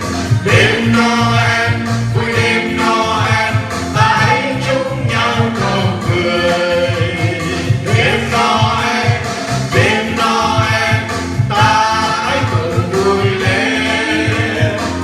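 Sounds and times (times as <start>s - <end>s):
instrumental backing with bass beat: 0.0s - 15.0s
voices singing: 0.0s - 15.0s.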